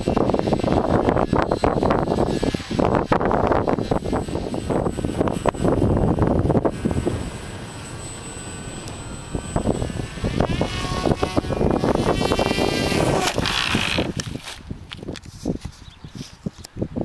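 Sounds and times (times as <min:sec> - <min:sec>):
model airplane motor whining: 0:00.0 - 0:16.7
wind noise on microphone: 0:00.0 - 0:17.0.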